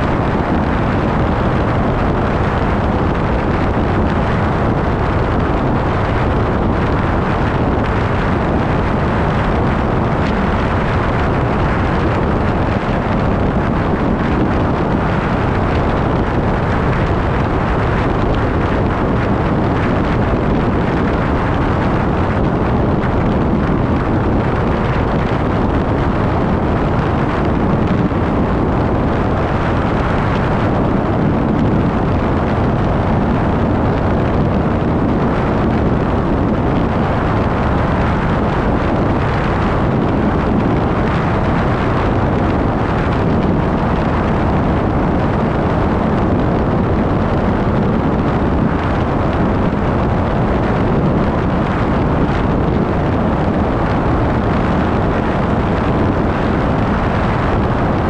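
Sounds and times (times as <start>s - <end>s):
wind buffeting microphone: 0.0s - 58.0s
wind rush: 0.0s - 58.0s.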